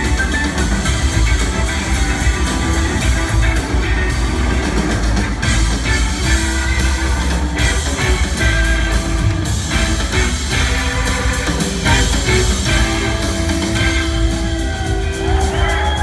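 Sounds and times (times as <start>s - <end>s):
bass guitar: 0.0s - 16.0s
drum kit: 0.0s - 16.0s
electric guitar lines: 0.0s - 16.0s.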